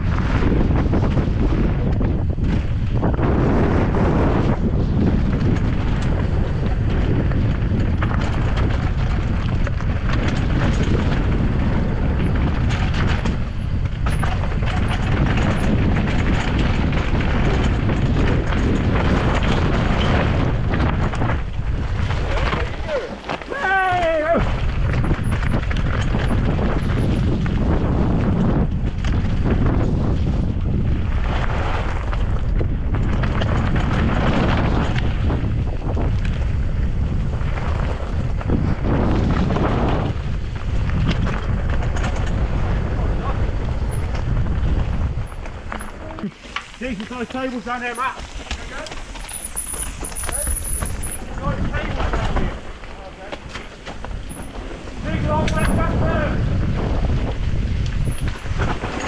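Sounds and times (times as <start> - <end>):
bike knocking and rattling: 0.0 - 59.0
bike tyre rumble: 0.0 - 59.0
wind rushing over microphone: 0.0 - 59.0.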